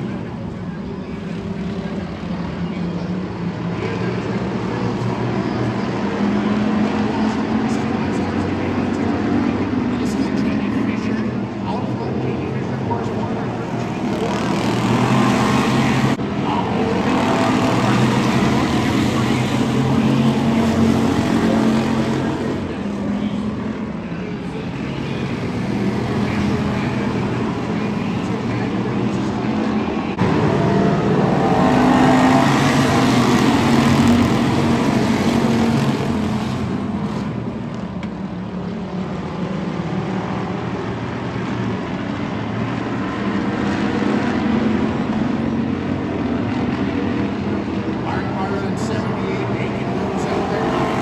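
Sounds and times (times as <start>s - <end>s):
stock car engines racing: 0.0s - 51.0s.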